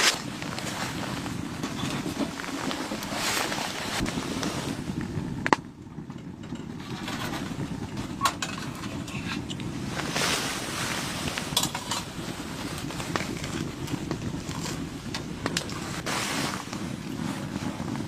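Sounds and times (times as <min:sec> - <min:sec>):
gusting wind: 0:00.0 - 0:18.0.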